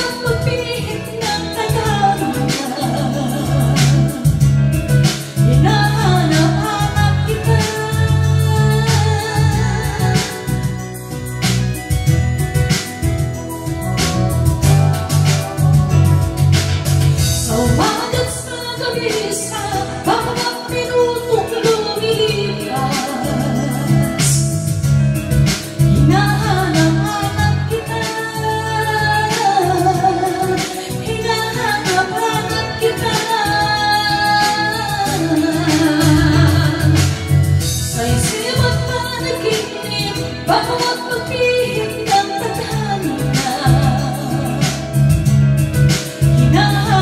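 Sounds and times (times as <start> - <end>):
backing track with steady beat: 0.0 - 47.0
woman singing into microphone: 0.0 - 47.0.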